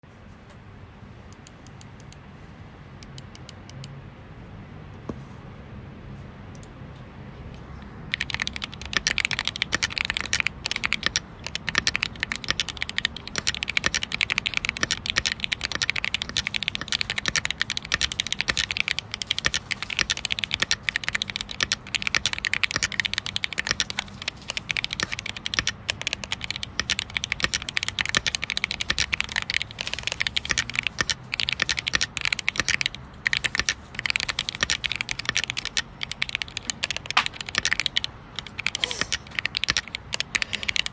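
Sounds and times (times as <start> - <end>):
keyboard typing: 7.6 - 40.9.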